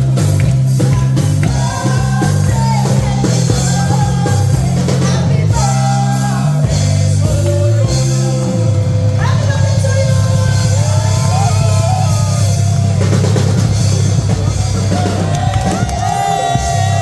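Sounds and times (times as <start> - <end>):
rock music with sung vocal: 0.0 - 17.0.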